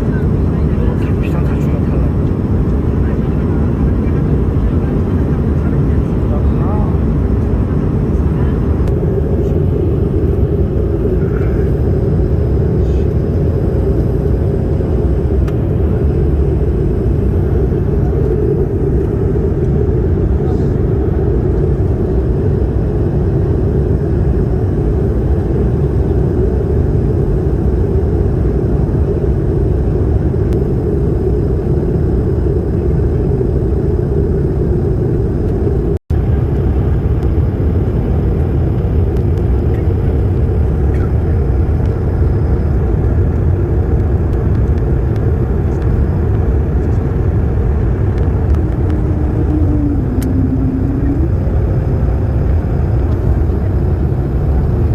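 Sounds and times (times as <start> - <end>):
airliner cabin engine rumble: 0.0 - 54.9.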